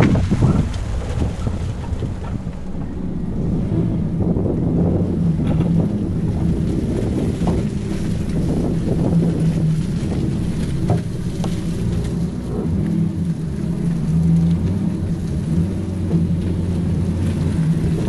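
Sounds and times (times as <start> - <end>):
tyre and road rumble: 0.0 - 18.0
wind buffeting microphone: 0.0 - 18.0.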